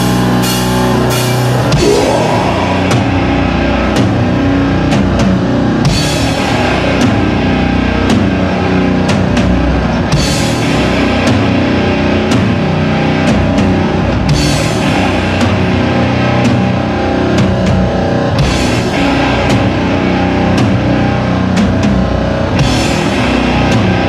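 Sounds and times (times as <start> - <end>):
drum kit beat: 0.0 - 24.0
heavy metal rock music: 0.0 - 24.0.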